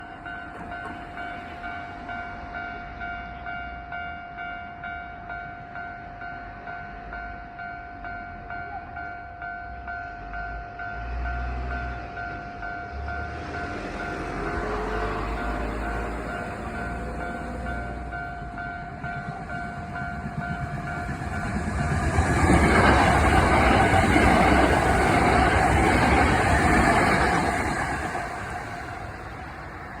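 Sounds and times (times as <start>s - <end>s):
level-crossing alarm dinging: 0.0s - 30.0s
train rumbling: 0.0s - 30.0s.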